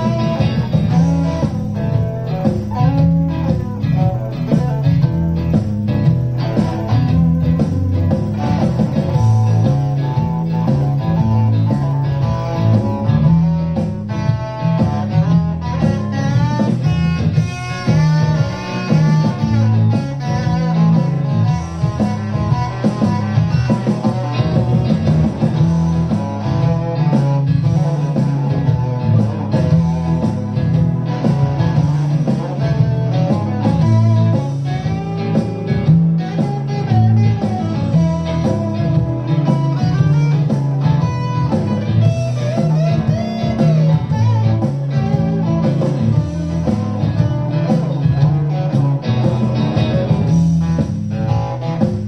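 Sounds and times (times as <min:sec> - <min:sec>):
electric guitar playing: 0:00.0 - 0:52.0.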